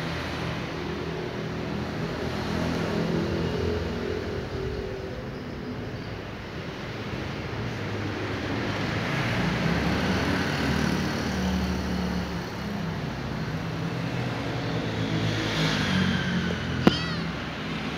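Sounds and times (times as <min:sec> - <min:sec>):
traffic rumble: 0:00.0 - 0:17.9.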